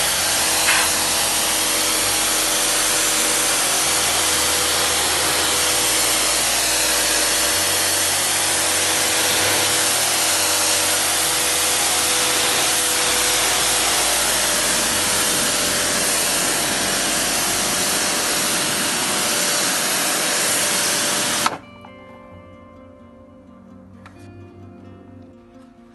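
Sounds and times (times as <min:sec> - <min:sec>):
pressure washer spray hissing: 0:00.0 - 0:21.6
motor hum: 0:00.0 - 0:21.9.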